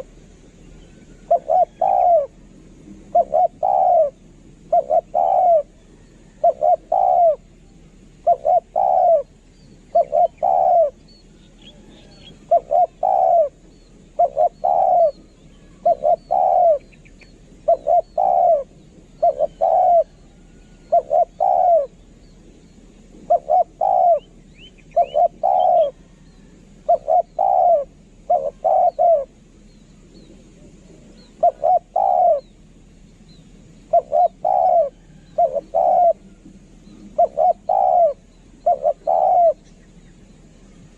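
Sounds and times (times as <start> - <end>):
dove cooing: 0.0 - 22.4, 23.1 - 32.7, 33.8 - 40.9
small birds chirping: 0.0 - 40.9.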